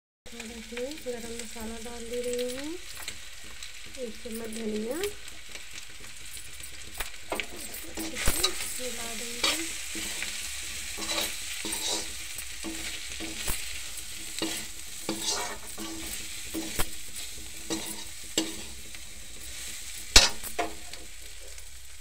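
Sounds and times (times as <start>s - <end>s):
potatoes sizzling in hot oil: 0.3s - 22.0s
spatula stirring and scraping: 1.1s - 22.0s
spatula clicking on pan: 2.4s - 21.7s.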